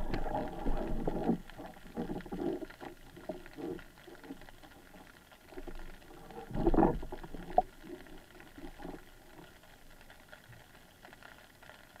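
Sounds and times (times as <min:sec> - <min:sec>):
muffled underwater gurgling: 0:00.0 - 0:10.1.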